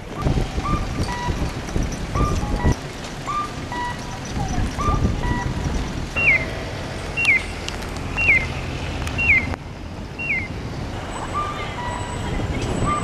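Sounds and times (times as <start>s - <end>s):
street noise: 0.0s - 13.0s
wind: 0.0s - 13.0s
crossing signal chirping: 0.1s - 13.0s.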